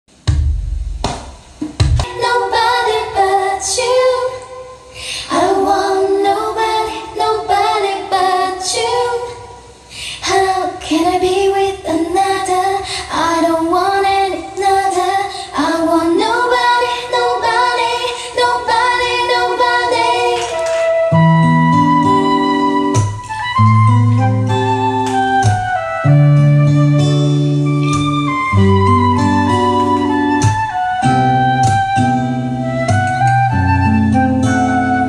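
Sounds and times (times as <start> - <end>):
high singing voice with light accompaniment: 2.0 - 35.0.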